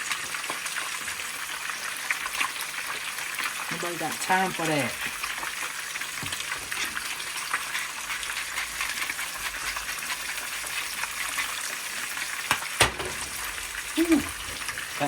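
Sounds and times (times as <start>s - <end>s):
fish sizzling in oil: 0.0s - 15.0s
oil crackling spatters: 0.0s - 15.0s.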